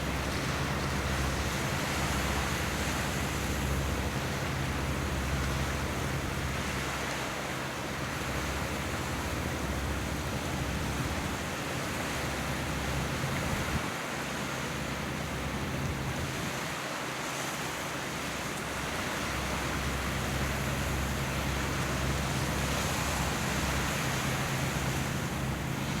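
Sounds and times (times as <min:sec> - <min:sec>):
water: 0:00.0 - 0:26.0.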